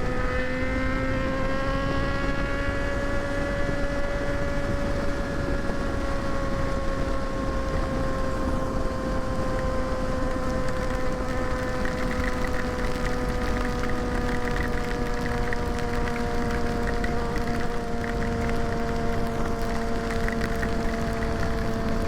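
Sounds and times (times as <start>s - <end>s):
motorcycle engine cruising: 0.0s - 22.0s
wind rushing over microphone: 0.0s - 22.0s.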